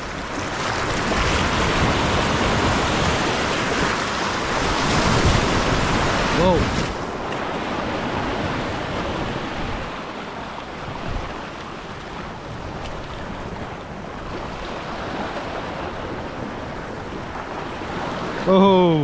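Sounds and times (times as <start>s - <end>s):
wind on microphone: 0.0s - 18.5s
waves washing against rocks: 0.0s - 19.0s.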